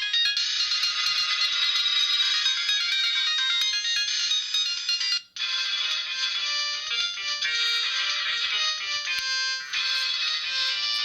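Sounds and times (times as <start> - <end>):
mobile phone ringtone melody: 0.0 - 11.0.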